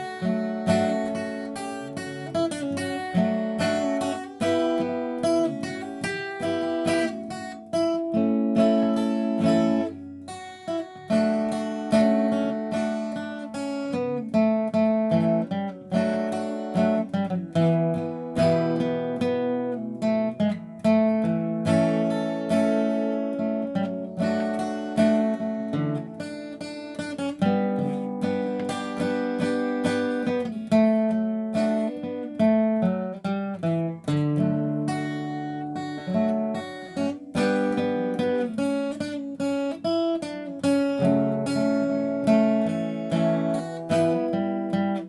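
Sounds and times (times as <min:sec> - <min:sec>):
acoustic guitar slow melody: 0:00.0 - 0:45.0.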